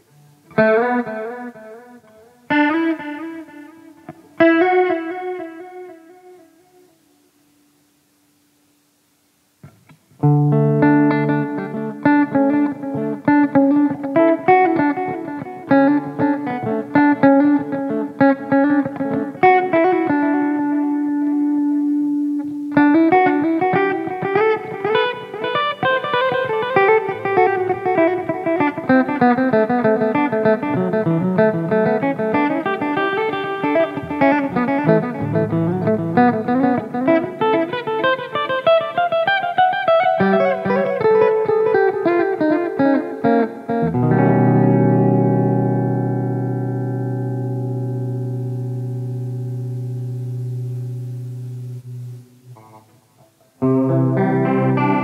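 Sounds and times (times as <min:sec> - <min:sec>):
electric guitar lead solo: 0:00.0 - 0:07.3, 0:09.6 - 0:55.0.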